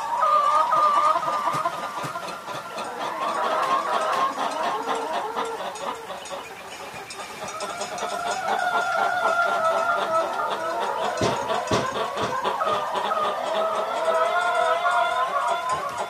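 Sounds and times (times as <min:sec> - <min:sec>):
hen clucking: 0:00.0 - 0:16.0.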